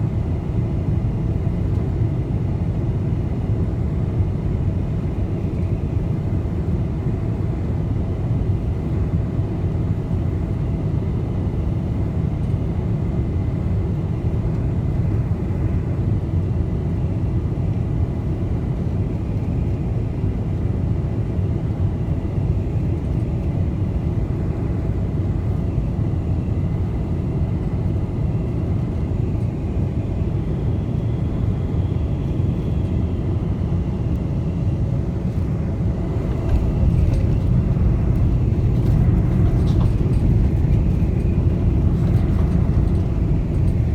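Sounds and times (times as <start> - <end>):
aircraft cabin rumble: 0.0 - 43.9.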